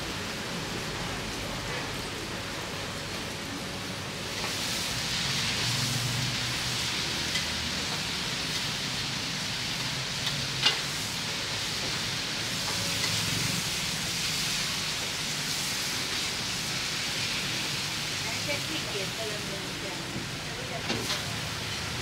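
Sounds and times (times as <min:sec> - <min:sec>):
food sizzling in a wok: 0:00.0 - 0:22.0.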